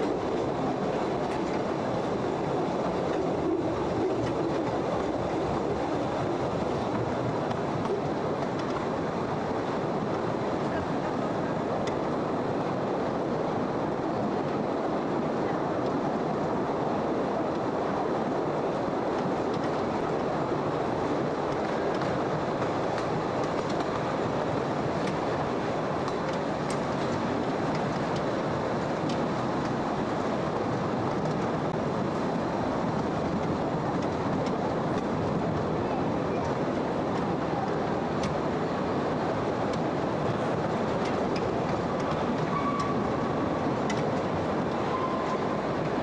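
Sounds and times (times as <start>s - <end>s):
train wheels on rails: 0.0s - 46.0s.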